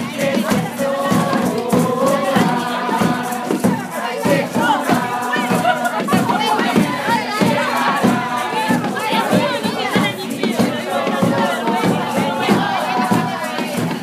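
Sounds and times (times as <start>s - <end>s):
group of adults singing: 0.0s - 14.0s
music with steady beat: 0.0s - 14.0s.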